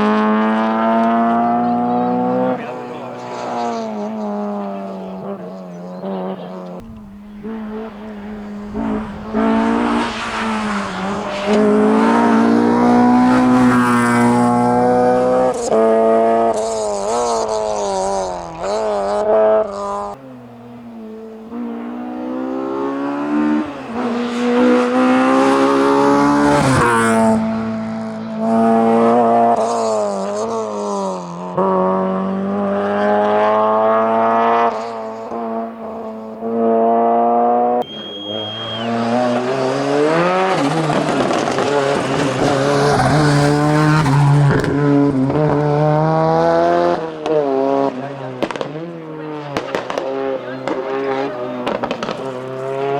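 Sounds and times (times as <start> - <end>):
rally car engine revving hard: 0.0 - 52.9
turbocharged car engine revving: 0.0 - 52.9.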